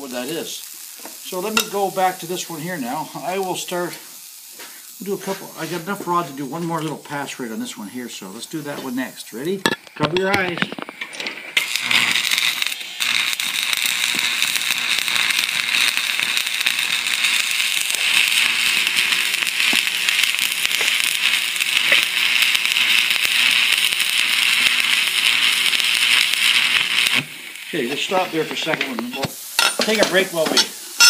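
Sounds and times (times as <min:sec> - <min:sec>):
welding arc crackling: 0:00.0 - 0:31.0.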